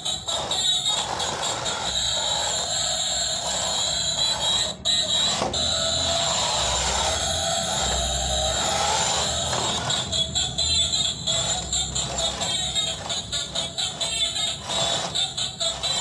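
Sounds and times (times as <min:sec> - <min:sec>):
toy truck motors whirring: 0:00.0 - 0:16.0.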